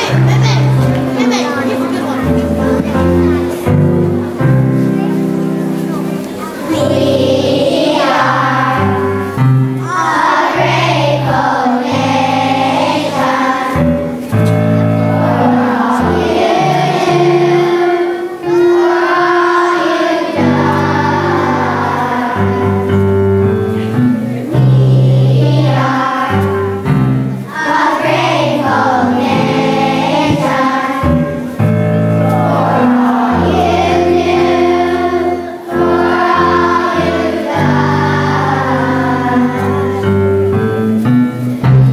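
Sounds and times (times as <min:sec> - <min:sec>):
children's choir singing: 0:00.0 - 0:41.9
instrumental accompaniment with bass: 0:00.0 - 0:41.9.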